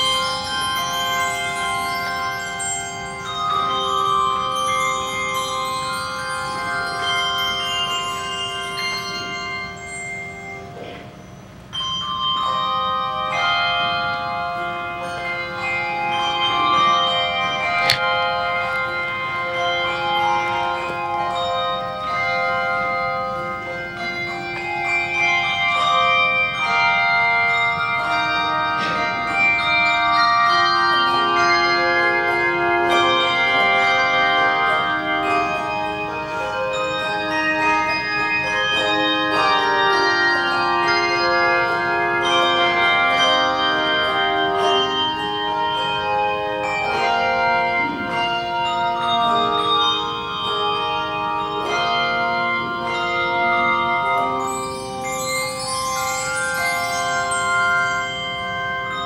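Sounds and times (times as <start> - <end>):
handbell choir playing: 0.0 - 59.0.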